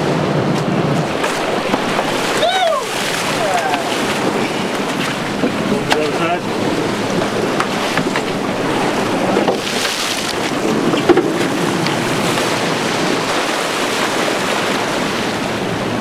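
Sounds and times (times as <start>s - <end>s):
wind buffeting microphone: 0.0s - 16.0s
water sloshing against boat hull: 0.4s - 16.0s.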